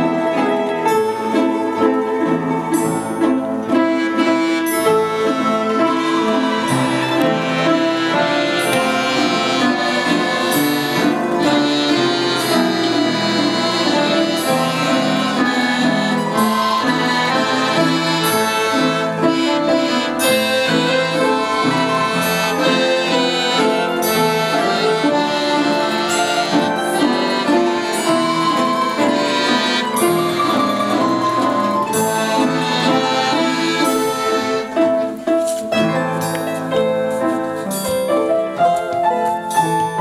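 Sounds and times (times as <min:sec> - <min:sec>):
orchestra playing: 0:00.0 - 0:40.0.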